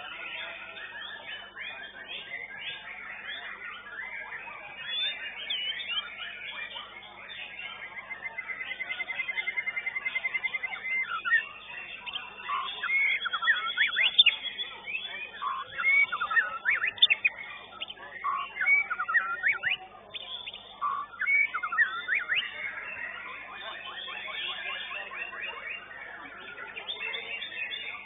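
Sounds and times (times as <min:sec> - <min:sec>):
bird singing whistles: 0:00.0 - 0:28.0.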